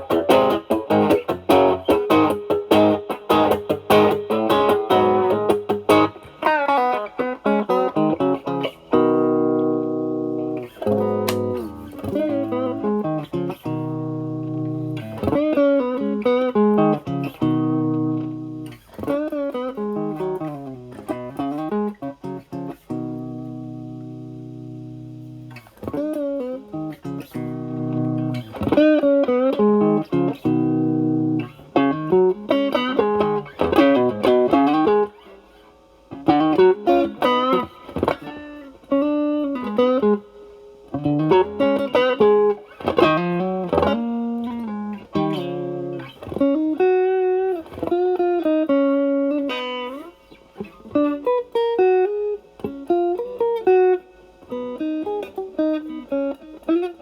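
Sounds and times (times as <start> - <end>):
overdriven electric guitar lead: 0.0 - 57.0.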